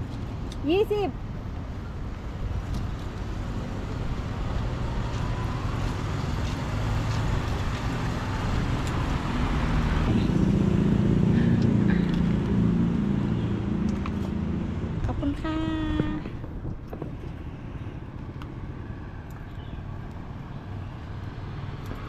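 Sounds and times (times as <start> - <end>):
motor vehicle engine: 0.0 - 22.0
road traffic passing: 0.0 - 22.0.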